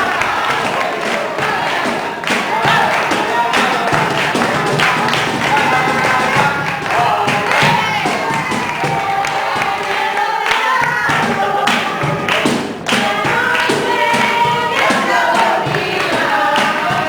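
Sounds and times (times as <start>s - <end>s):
choir singing with music: 0.0s - 17.0s.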